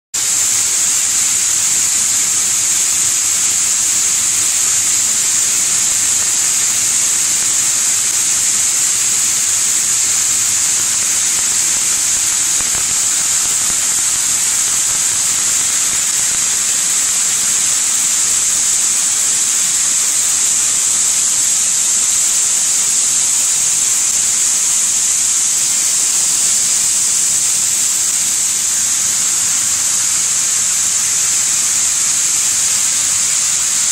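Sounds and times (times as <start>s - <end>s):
cleaning machine hissing: 0.2s - 33.9s.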